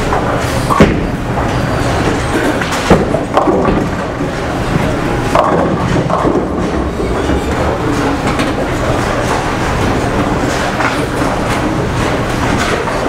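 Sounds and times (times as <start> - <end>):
bowling pins clattering: 0.0 - 13.0
bowling ball rolling: 0.1 - 13.0.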